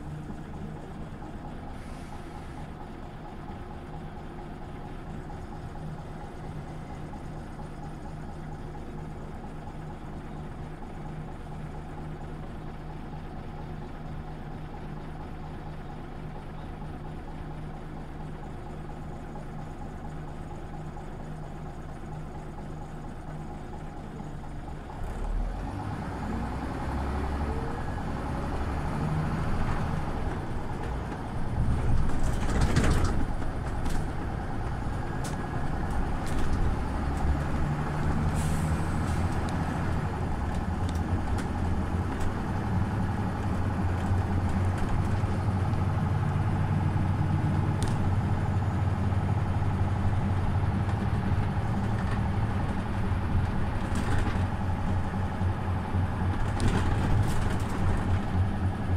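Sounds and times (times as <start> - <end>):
bus engine running: 0.0 - 58.9.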